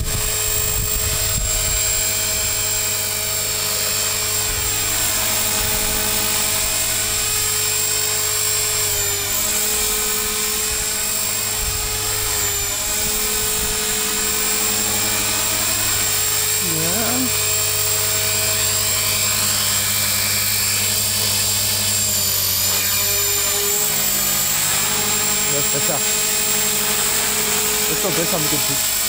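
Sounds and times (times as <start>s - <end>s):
rc helicopter motor whine: 0.0s - 29.0s.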